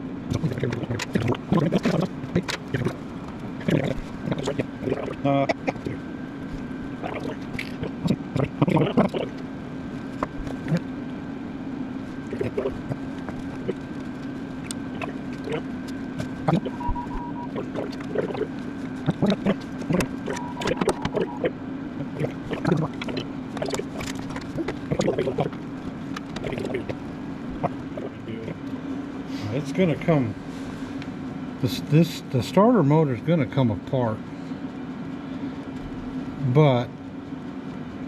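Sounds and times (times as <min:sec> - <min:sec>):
steady machine hum: 0:00.0 - 0:38.0.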